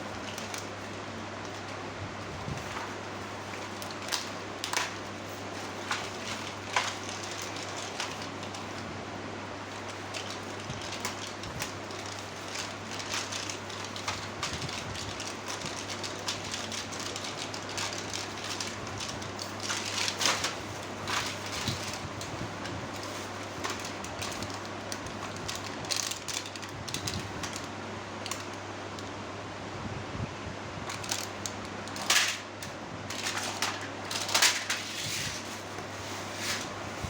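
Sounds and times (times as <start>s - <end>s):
packaging crinkling and rustling: 0.0s - 8.9s, 9.6s - 29.2s, 30.8s - 37.0s
steady low hum: 0.0s - 37.0s.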